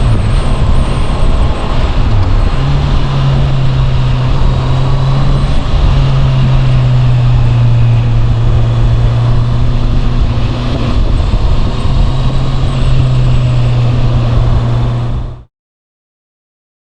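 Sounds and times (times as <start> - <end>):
motorcycle engine running steadily: 0.0 - 15.5.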